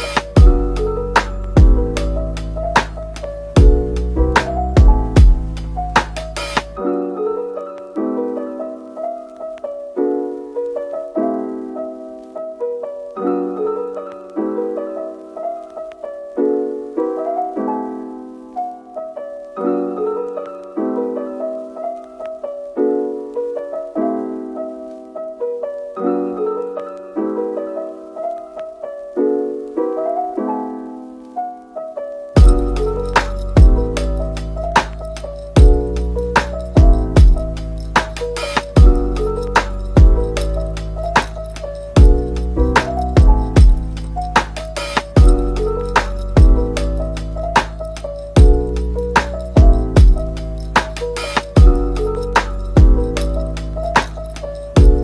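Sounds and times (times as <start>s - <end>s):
soft piano chords: 0.0s - 55.0s.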